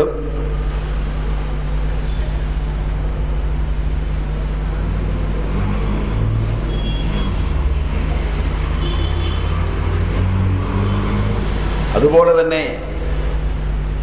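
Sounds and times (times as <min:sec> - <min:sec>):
low electrical hum: 0:00.0 - 0:14.0
steady background noise: 0:00.0 - 0:14.0.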